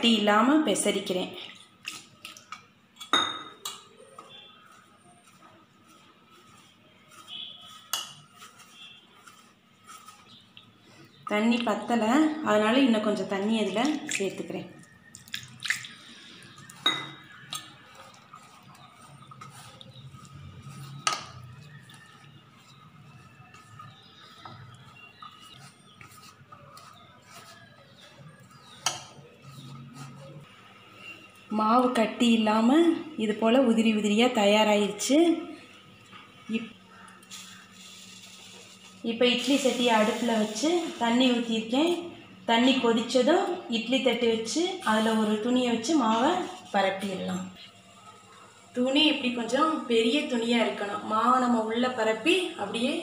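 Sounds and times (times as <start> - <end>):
hands rubbing flour in a bowl: 3.8 - 31.5, 34.8 - 53.0.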